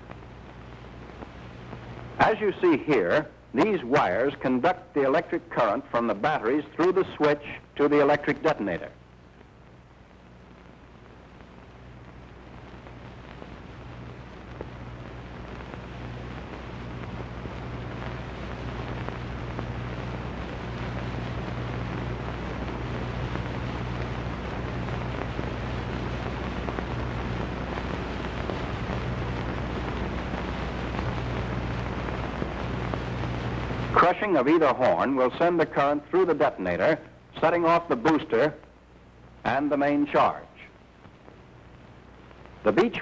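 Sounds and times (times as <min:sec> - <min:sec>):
film soundtrack hiss: 0:00.0 - 0:43.0
low mains hum: 0:00.0 - 0:43.0.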